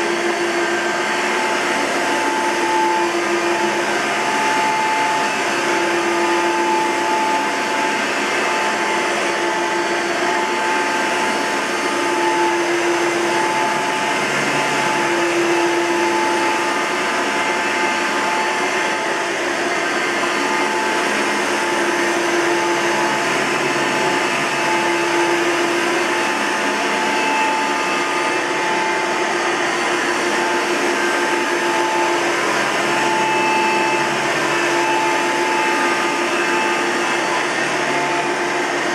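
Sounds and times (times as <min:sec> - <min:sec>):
siren-like motor tone: 0:00.0 - 0:38.9
upright vacuum cleaner running: 0:00.0 - 0:38.9.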